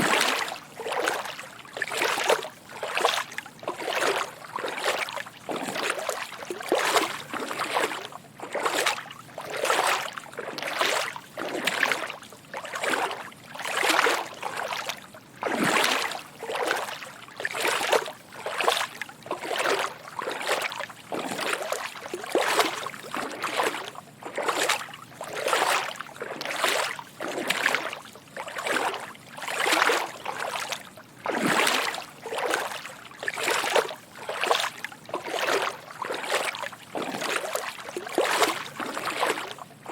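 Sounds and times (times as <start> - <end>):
footsteps wading through water: 0.0 - 39.9.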